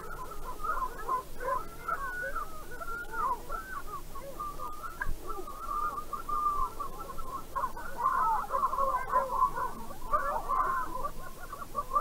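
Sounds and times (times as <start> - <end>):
chorus of bird calls: 0.0 - 12.0.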